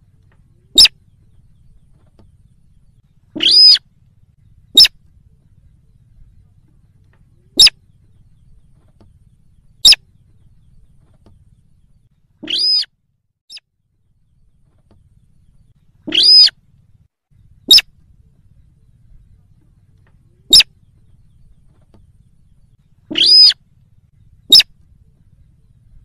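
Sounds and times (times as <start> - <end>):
longer pitched bird calls: 0.0 - 12.9, 14.2 - 26.0.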